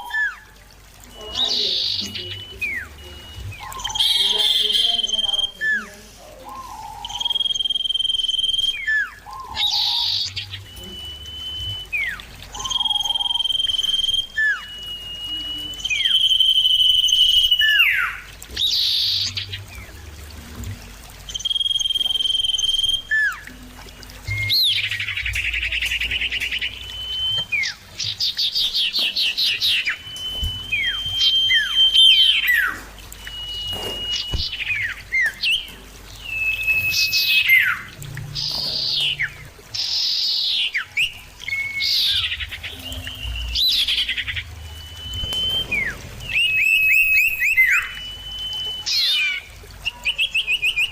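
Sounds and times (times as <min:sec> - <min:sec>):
bird whistles with downward slur: 0:06.5 - 0:19.9, 0:21.3 - 0:28.1, 0:28.8 - 0:35.6, 0:36.2 - 0:40.0, 0:40.6 - 0:50.9.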